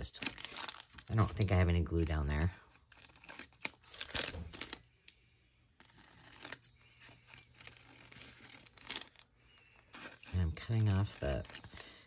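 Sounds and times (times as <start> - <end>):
paper rustling: 0.0 - 4.9, 5.8 - 12.0.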